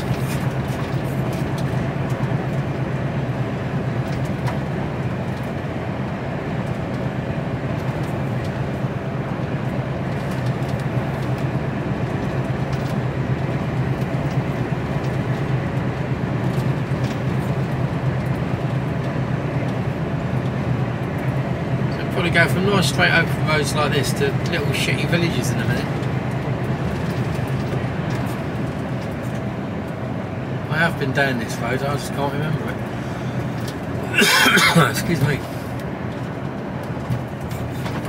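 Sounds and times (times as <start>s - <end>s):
lorry diesel engine drone: 0.0s - 38.0s
tyre and road noise: 0.0s - 38.0s.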